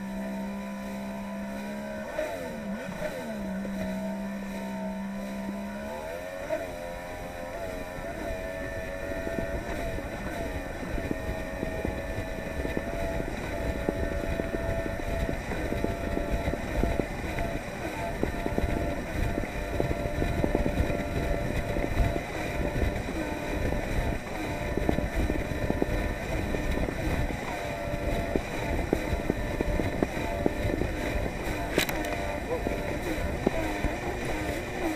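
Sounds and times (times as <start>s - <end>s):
watercraft engine at high revs: 0.0s - 34.9s
wind noise on microphone: 0.0s - 34.9s.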